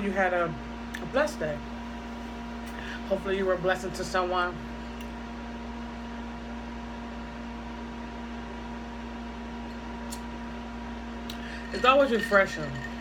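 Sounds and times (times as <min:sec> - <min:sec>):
room noise hum: 0:00.0 - 0:13.0.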